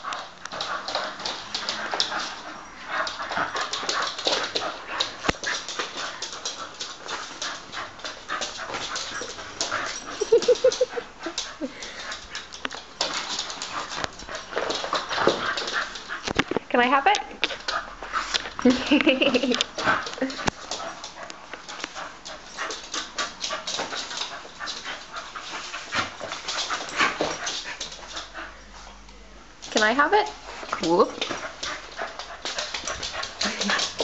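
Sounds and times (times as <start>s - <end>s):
dog scuffling and mouthing toy: 0.0s - 34.0s.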